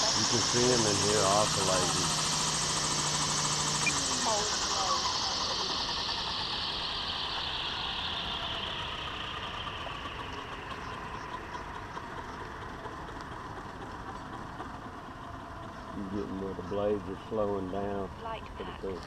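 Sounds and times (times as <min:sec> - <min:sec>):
model helicopter rotor spooling down: 0:00.0 - 0:19.0.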